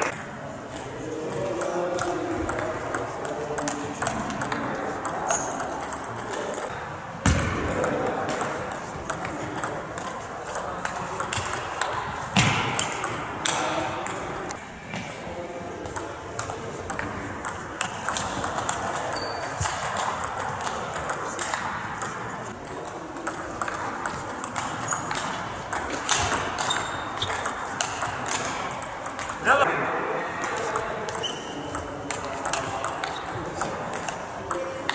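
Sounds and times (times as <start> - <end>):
table tennis balls clicking: 0.0 - 6.7, 7.3 - 15.2, 15.8 - 29.6, 30.4 - 34.9.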